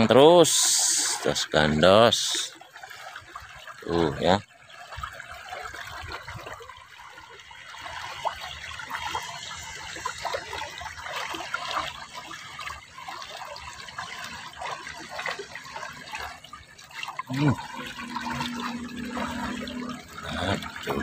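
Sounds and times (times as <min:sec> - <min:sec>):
water trickling in a ditch: 0:00.0 - 0:21.0.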